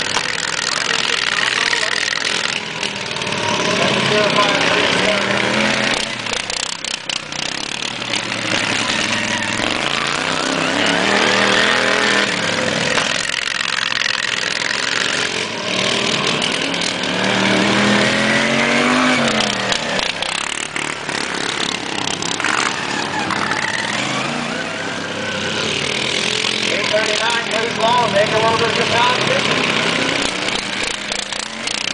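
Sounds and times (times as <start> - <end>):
racing lawn mower engines: 0.0 - 31.9.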